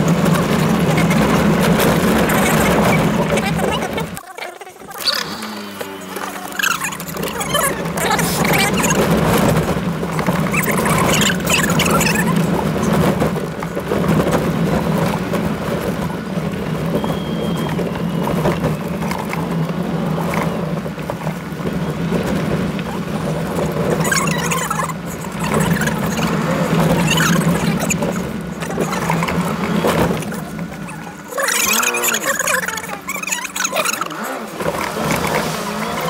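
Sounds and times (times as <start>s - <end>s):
car engine drone: 0.0s - 4.2s, 4.8s - 36.0s
tyres on gravel: 0.0s - 36.0s
knocks and rattles from bumps: 4.9s - 36.0s.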